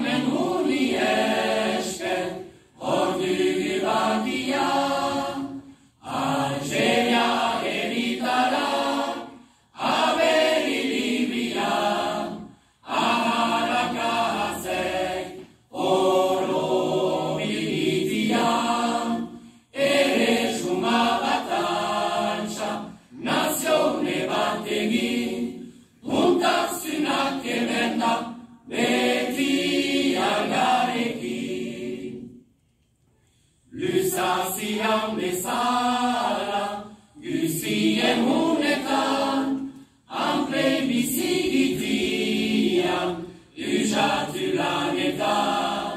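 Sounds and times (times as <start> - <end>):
choir singing unaccompanied: 0.0 - 32.5, 33.7 - 45.9.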